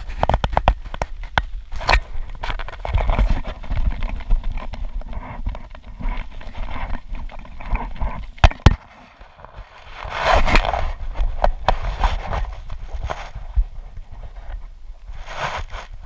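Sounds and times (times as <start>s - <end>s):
camera handling rubbing and crackling: 0.0s - 16.0s
rustling: 0.0s - 16.0s.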